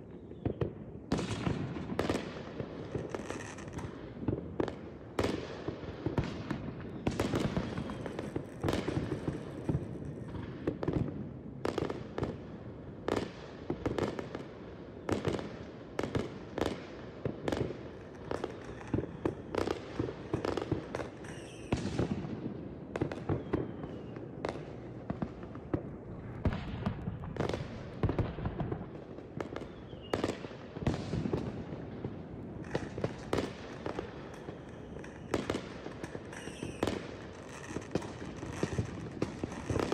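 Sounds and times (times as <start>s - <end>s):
fireworks bangs: 0.4s - 11.1s, 18.3s - 39.9s.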